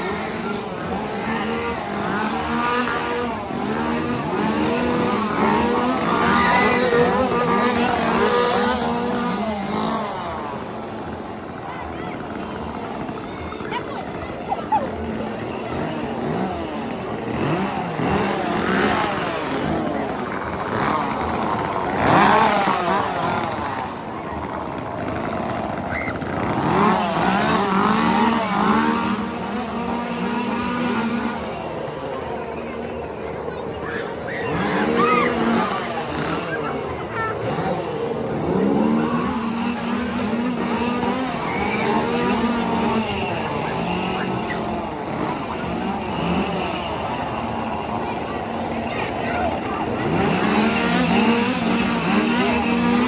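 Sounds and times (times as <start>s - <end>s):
chainsaw engine revving: 0.0s - 53.0s.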